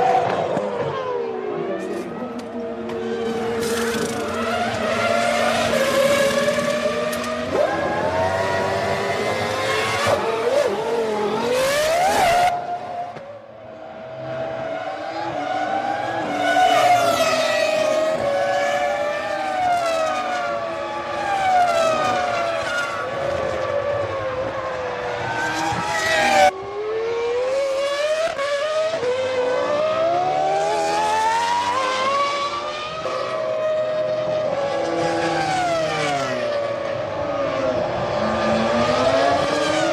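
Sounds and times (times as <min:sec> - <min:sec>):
racing car engines: 0:00.0 - 0:39.9.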